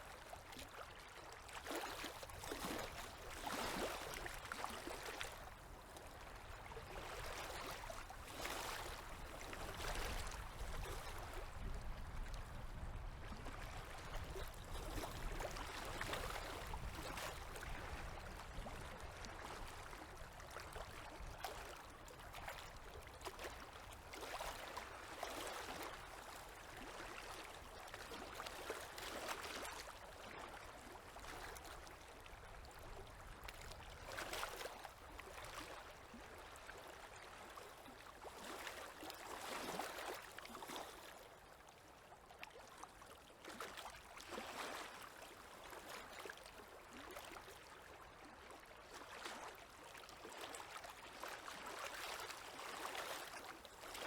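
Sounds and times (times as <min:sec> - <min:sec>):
waves lapping at shore: 0:00.0 - 0:54.0.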